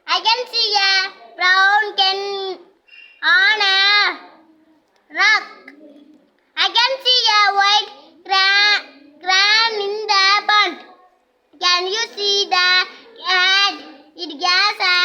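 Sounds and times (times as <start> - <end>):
child singing: 0.1 - 15.0.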